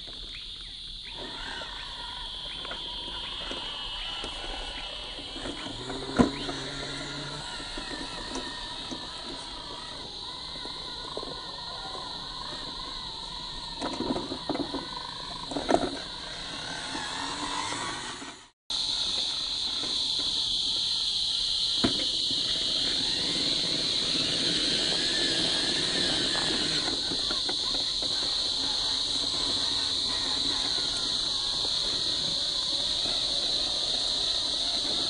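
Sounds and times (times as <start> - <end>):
high-pitched insect buzz: 0.0 - 35.0.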